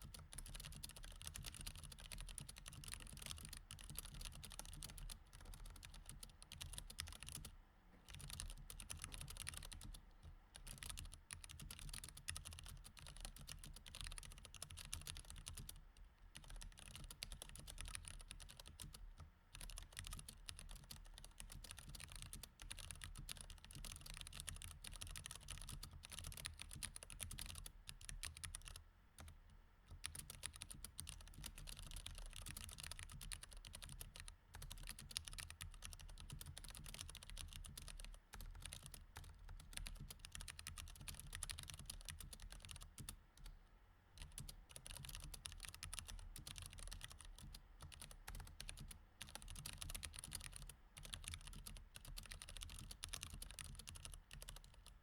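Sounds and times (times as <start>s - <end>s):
typing on mechanical keyboard: 0.0s - 10.0s, 10.6s - 15.8s, 16.4s - 29.3s, 29.9s - 43.5s, 44.2s - 55.0s.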